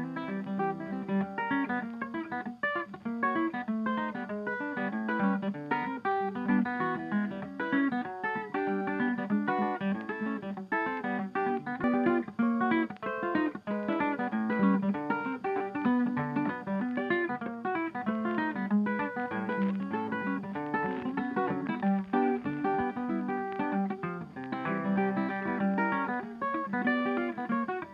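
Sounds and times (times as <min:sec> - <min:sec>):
acoustic guitar plucked notes: 0:00.0 - 0:27.9.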